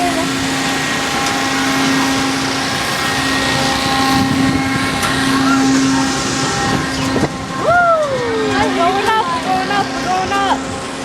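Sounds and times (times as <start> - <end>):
ride machinery humming: 0.0 - 11.0.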